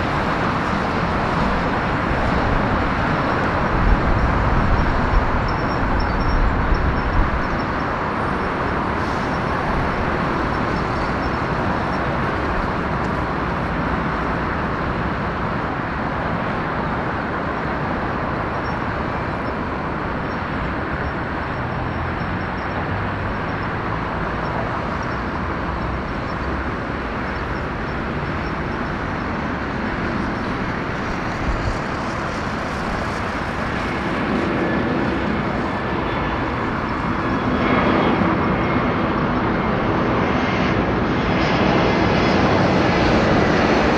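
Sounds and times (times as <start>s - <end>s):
jet engine rumble: 0.0s - 43.9s.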